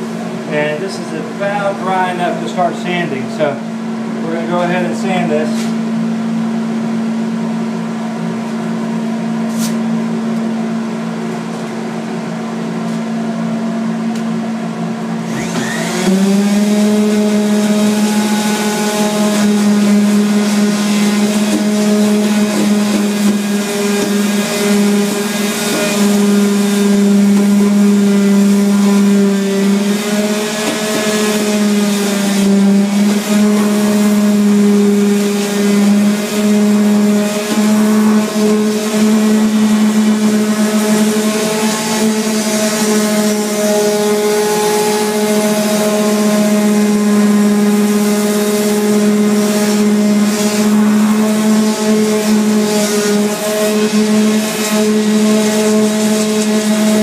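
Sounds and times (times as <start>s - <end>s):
steady machine hum: 0.0s - 57.0s
orbital sander whirring: 4.2s - 57.0s.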